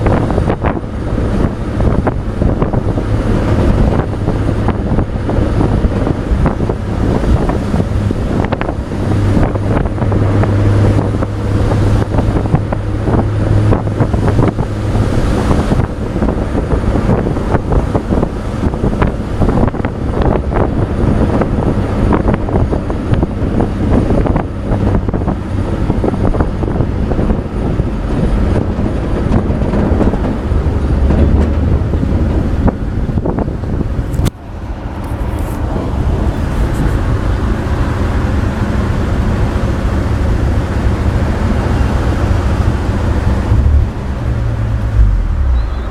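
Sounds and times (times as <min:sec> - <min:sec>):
road noise: 0:00.0 - 0:45.9
truck bed rattling: 0:00.0 - 0:45.9
truck engine hum: 0:00.0 - 0:45.9
wind buffeting microphone: 0:00.0 - 0:45.9.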